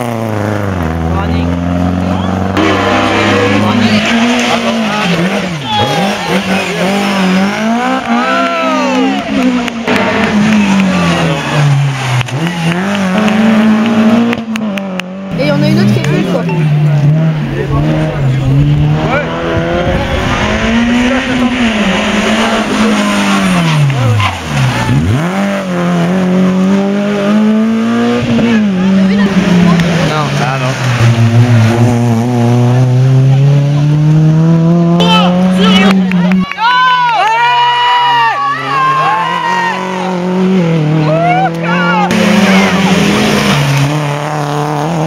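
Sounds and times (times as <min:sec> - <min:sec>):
rally car engine revving: 0:00.0 - 0:36.6, 0:37.5 - 0:45.0.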